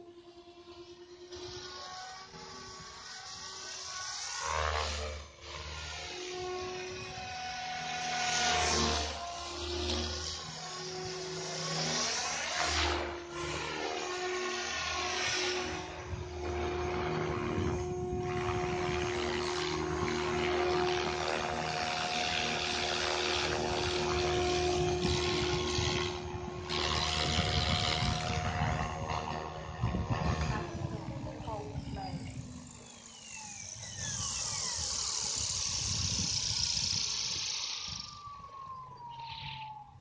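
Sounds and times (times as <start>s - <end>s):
rc helicopter motor whine: 0.0s - 40.0s.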